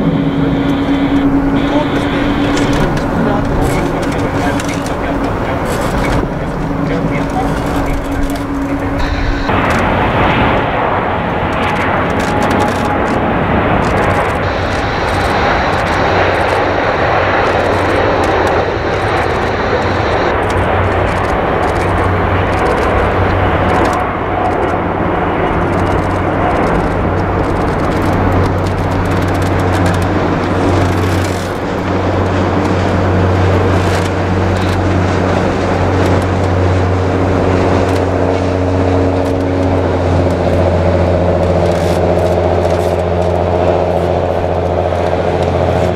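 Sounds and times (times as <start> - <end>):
jet engine roar: 0.0 - 45.9.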